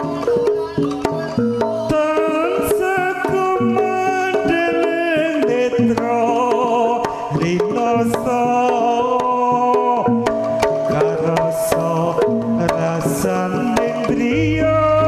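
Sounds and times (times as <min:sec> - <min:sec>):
hand drums beating: 0:00.0 - 0:15.0.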